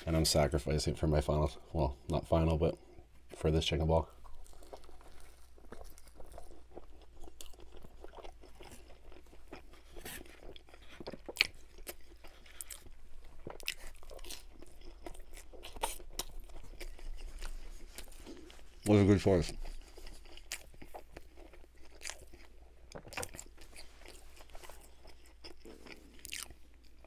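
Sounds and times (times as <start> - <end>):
chewing and crunching food: 0.0 - 27.0.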